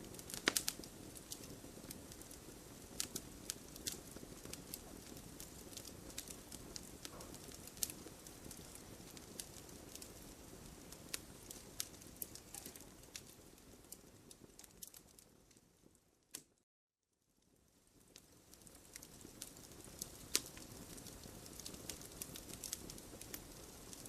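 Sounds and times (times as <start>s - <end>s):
campfire popping and snapping: 0.0s - 15.6s, 17.5s - 24.0s
rush of burning wood: 0.0s - 15.6s, 17.8s - 24.0s.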